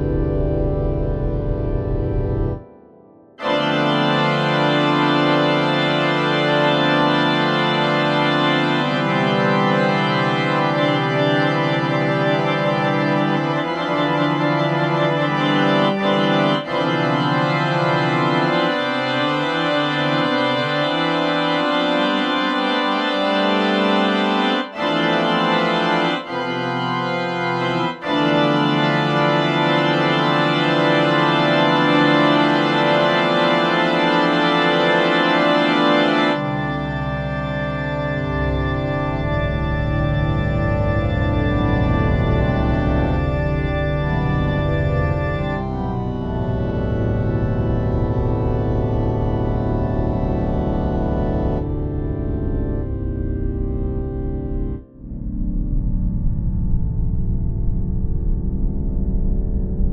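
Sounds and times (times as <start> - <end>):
organ playing held chords: 0.0 - 59.9.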